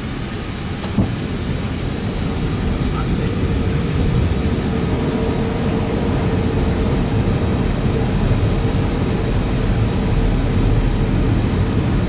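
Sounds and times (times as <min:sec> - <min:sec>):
cockpit airflow and engine noise: 0:00.0 - 0:12.0.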